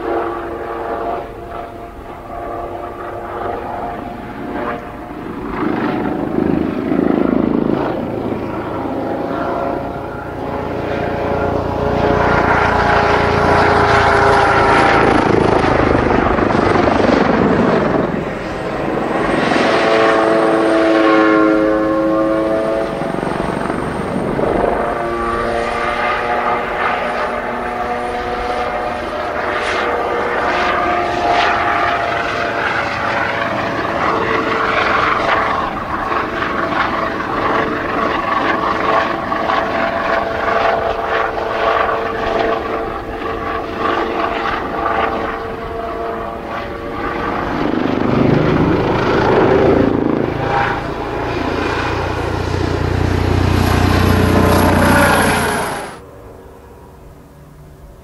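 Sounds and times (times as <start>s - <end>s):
helicopter flying past: 0.0s - 58.0s.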